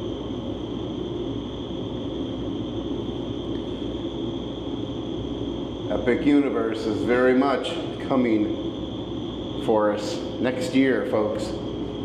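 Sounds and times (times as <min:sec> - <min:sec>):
air conditioning hum: 0:00.0 - 0:12.0
thin high whine: 0:00.0 - 0:12.0.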